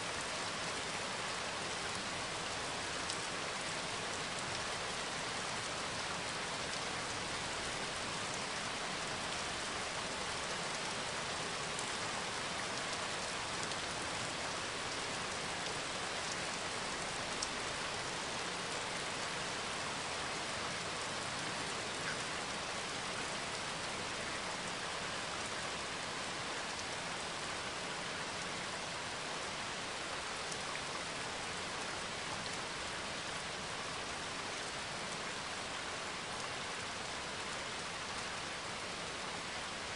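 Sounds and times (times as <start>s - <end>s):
steady rain hiss: 0.0s - 39.9s
faint raindrop ticks: 1.6s - 35.7s.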